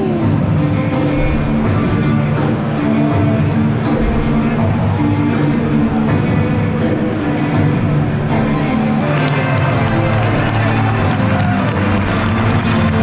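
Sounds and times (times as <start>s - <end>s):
loud music with steady beat: 0.0s - 13.0s.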